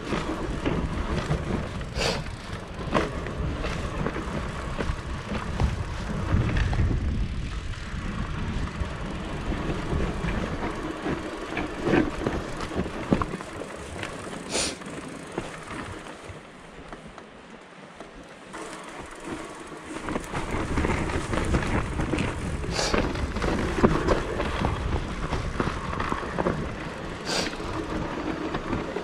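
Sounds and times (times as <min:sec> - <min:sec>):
wind rumbling on microphone: 0:00.0 - 0:17.0, 0:18.6 - 0:29.0
bike tyres rolling: 0:00.0 - 0:29.0.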